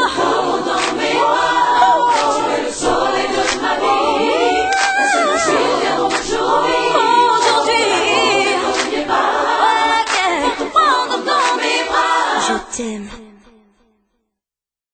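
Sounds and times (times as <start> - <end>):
choir singing: 0.0 - 12.9.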